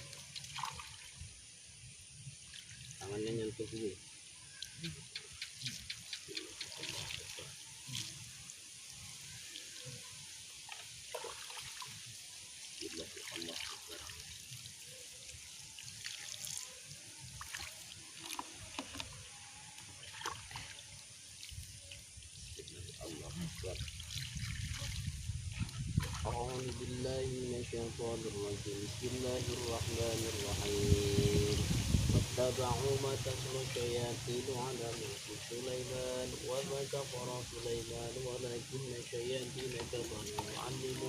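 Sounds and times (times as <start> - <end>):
small splashes and drips: 0.0 - 41.0
water trickling: 0.0 - 41.0.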